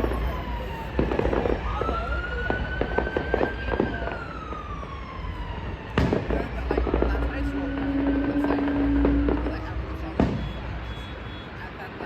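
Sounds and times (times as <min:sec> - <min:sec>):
fireworks bangs and pops: 0:00.0 - 0:04.3, 0:05.9 - 0:11.3
siren wailing: 0:00.0 - 0:11.6.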